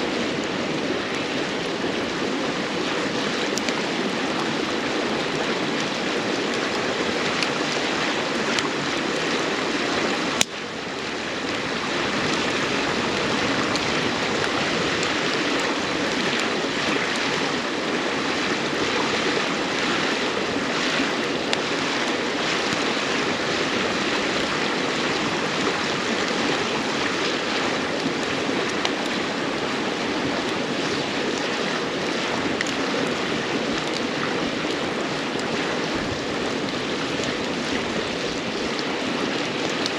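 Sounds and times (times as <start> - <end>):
firewood crackling: 0.0 - 39.9
river stream running: 0.0 - 39.9.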